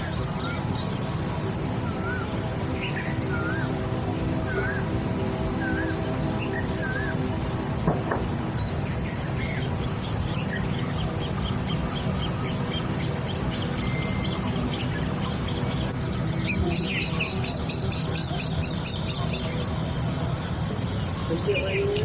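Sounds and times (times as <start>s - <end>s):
birds calling and chirping: 0.0s - 22.0s
high drone of insects: 0.0s - 22.0s.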